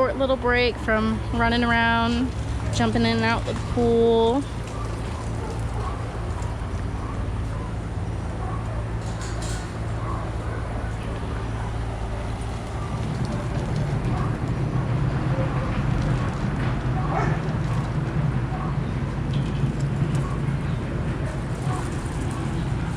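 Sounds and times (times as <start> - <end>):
low machine hum: 0.0 - 22.9.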